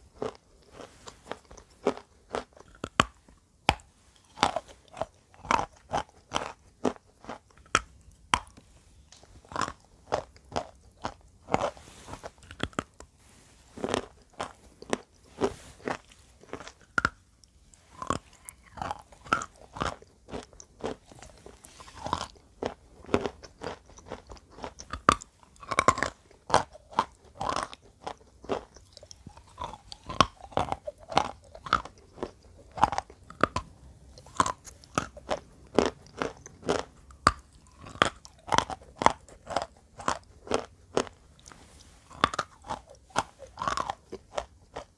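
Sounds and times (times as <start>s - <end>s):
crunching and chewing chalk: 0.0s - 44.9s.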